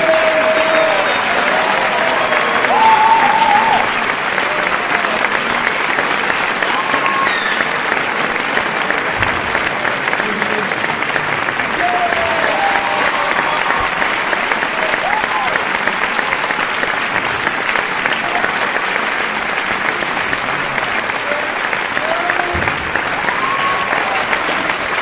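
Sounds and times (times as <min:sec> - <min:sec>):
crowd applauding: 0:00.0 - 0:25.0
faint crowd voices: 0:00.0 - 0:25.0.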